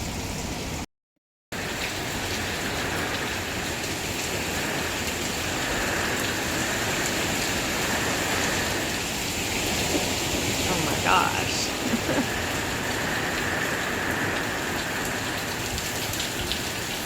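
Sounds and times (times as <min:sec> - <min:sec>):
heavy rain falling: 0:01.6 - 0:17.0.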